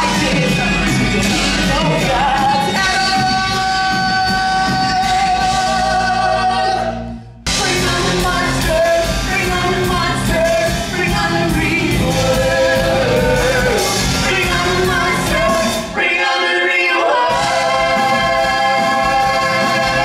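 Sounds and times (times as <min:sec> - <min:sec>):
cast singing with band: 0:00.0 - 0:20.0.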